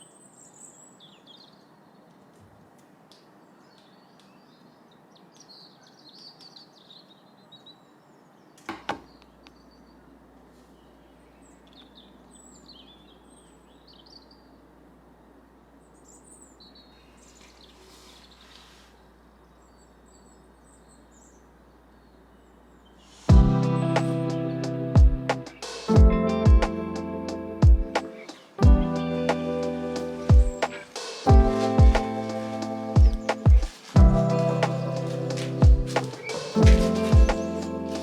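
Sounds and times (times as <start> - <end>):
faint outdoor background noise: 0.0 - 38.0
small birds chirping: 0.0 - 38.0.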